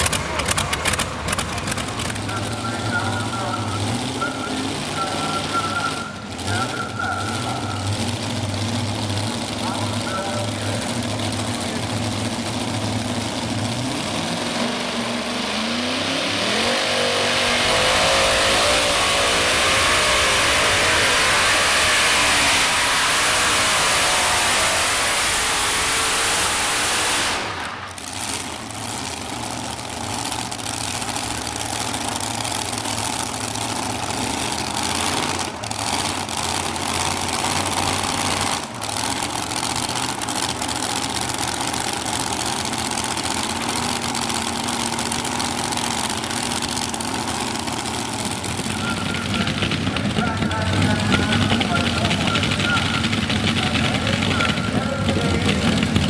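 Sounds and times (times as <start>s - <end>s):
engine idling: 0.0s - 56.0s
pulling tractor engines screaming: 0.0s - 56.0s.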